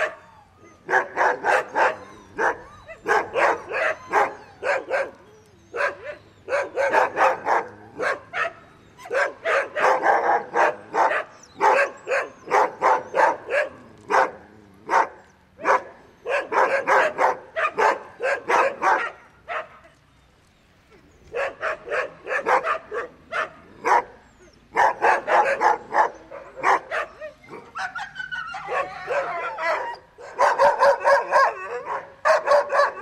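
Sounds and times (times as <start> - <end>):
small dog barking: 0.8 - 19.9, 21.3 - 33.0.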